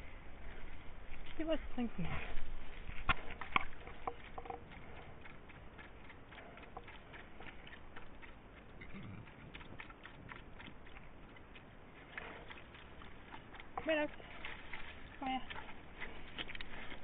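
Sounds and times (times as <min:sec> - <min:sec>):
dog lapping water: 0:02.3 - 0:17.0.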